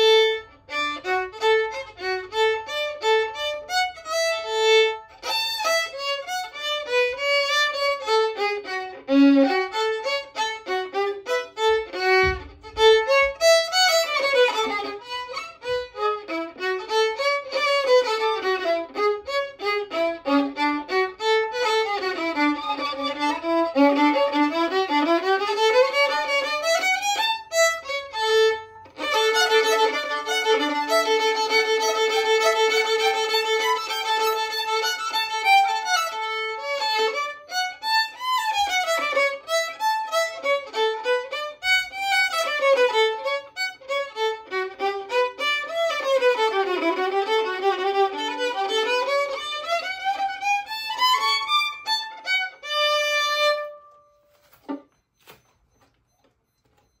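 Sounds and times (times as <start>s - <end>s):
solo violin: 0.0s - 55.5s.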